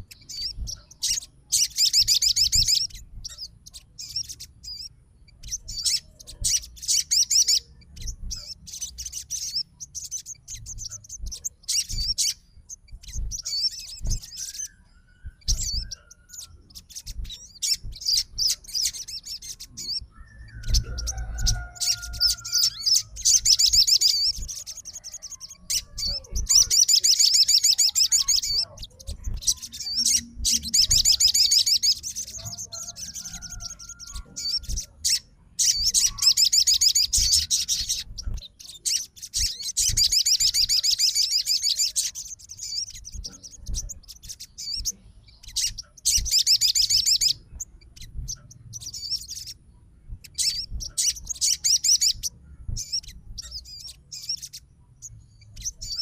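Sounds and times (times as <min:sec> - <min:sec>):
bird trilling: 0:00.0 - 0:49.6, 0:50.2 - 0:54.7.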